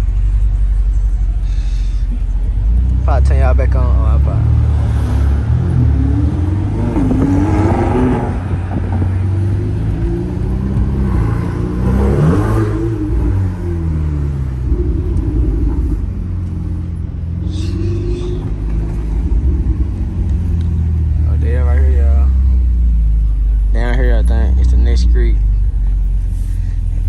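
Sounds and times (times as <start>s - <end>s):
sports car engine revving: 0.0s - 27.0s.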